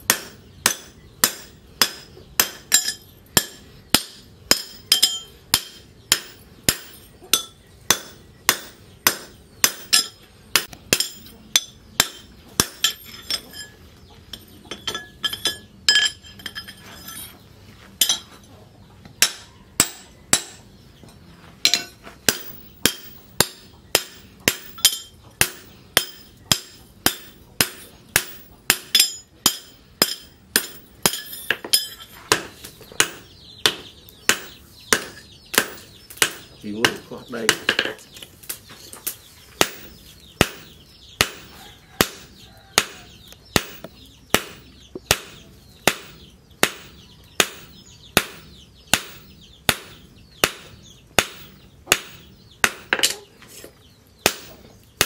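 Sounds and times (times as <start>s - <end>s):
hammer striking steel on anvil: 0.1s - 17.4s, 18.0s - 18.3s, 19.2s - 20.6s, 21.6s - 38.1s, 39.6s - 53.3s, 54.2s - 55.0s.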